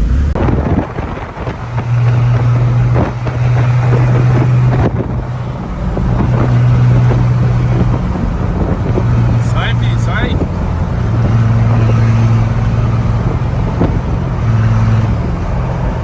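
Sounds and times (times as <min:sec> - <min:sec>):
deep bass from car speakers: 0:00.0 - 0:16.0
road and wind noise: 0:00.0 - 0:16.0.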